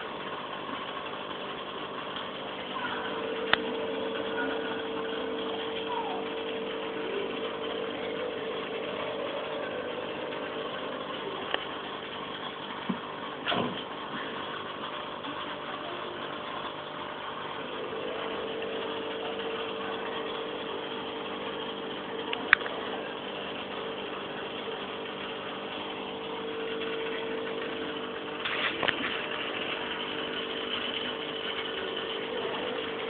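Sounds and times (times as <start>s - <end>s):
aquarium pump humming: 0.0s - 33.0s
bubbling water: 0.0s - 33.0s.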